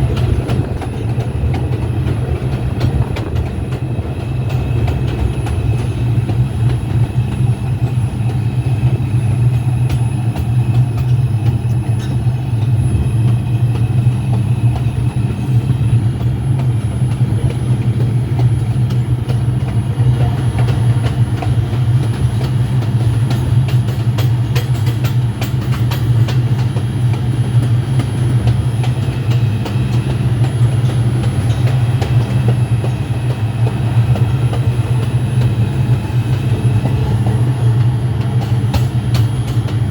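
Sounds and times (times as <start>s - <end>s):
subway train rumble: 0.0s - 39.9s.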